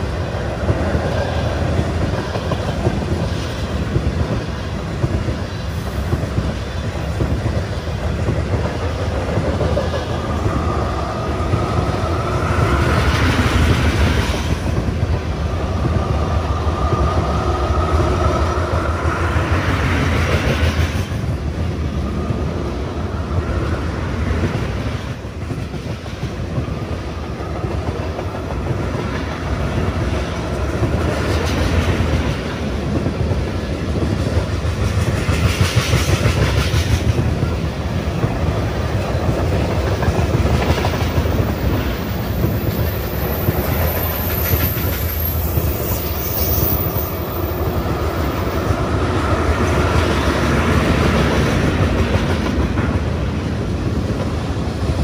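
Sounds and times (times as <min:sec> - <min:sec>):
freight train wheels clicking on rails: 0:00.0 - 0:55.0.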